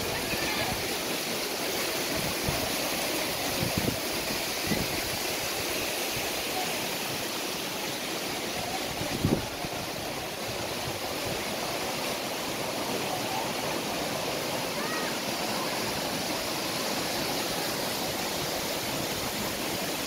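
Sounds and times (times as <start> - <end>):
river and waterfall rushing: 0.0 - 20.0.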